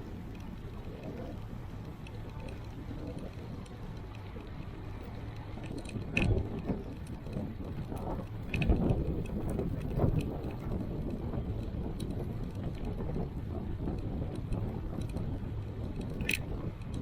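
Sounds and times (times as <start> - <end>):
bicycle rattling and clicking: 0.0 - 17.0
bicycle rumbling: 0.0 - 17.0.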